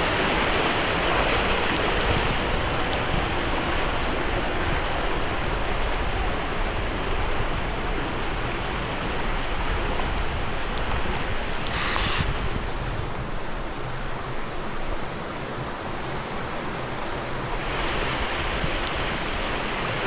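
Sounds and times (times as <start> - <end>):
water rushing: 0.0 - 20.0
wind buffeting microphone: 0.0 - 20.0.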